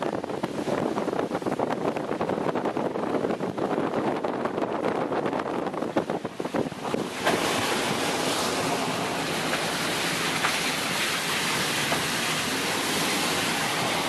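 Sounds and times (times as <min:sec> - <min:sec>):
car rattling over bumps: 0:00.0 - 0:14.0
road and wind noise inside car: 0:00.0 - 0:14.0.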